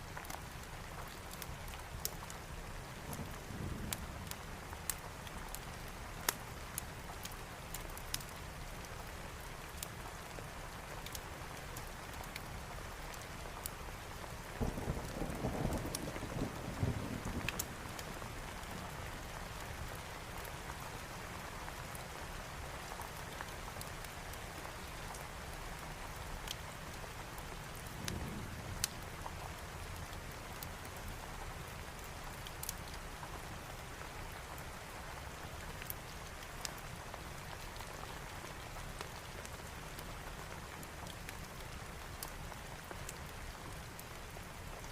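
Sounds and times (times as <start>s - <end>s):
wood fire crackling: 0.0s - 16.6s, 17.2s - 44.9s
heavy rain: 0.0s - 44.9s.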